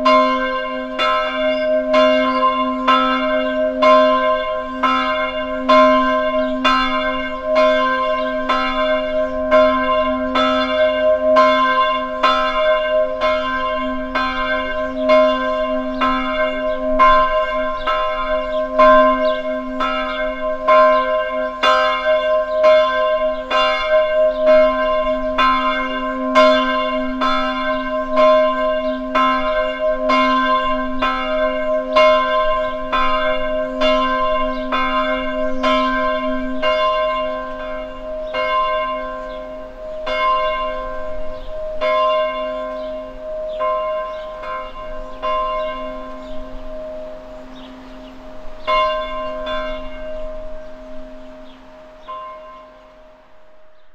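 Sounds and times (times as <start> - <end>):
church bells ringing: 0.0 - 53.9.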